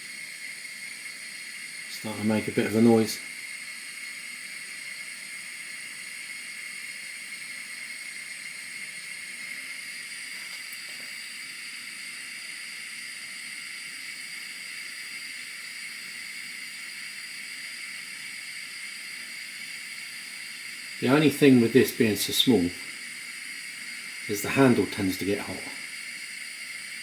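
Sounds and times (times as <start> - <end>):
stovetop espresso pot hissing: 0.0 - 27.0.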